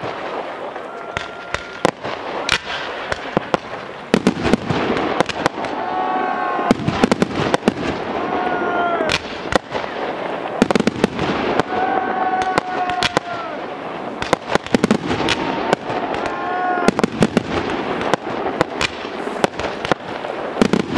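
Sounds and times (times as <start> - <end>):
fireworks crackling: 0.0 - 20.9.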